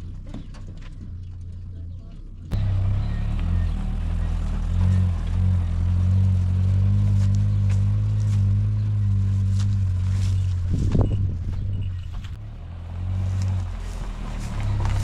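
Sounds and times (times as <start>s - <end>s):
farm machinery engine running: 2.5s - 15.0s.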